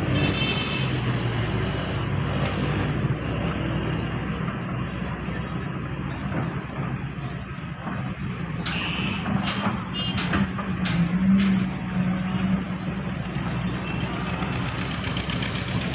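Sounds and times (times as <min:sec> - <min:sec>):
diesel machinery engine humming: 0:00.0 - 0:15.9.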